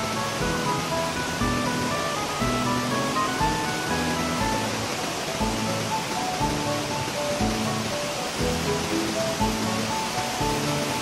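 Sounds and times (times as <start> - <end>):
fountains splashing: 0.0 - 11.0
music with bass and melody: 0.0 - 11.0.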